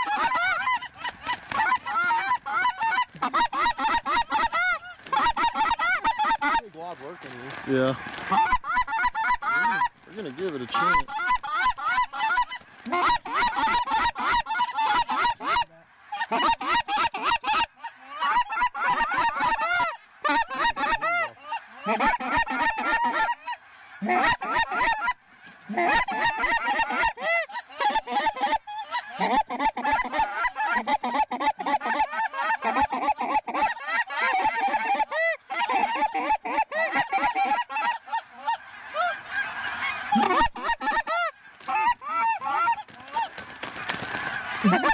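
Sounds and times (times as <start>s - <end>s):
flock of geese honking: 0.0s - 44.9s.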